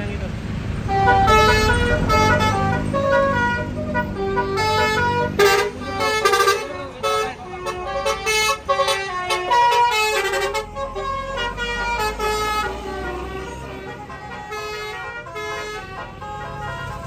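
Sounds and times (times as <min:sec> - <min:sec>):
bus engine rumble: 0:00.0 - 0:17.0
multi-tone bus horn tune: 0:00.8 - 0:17.0.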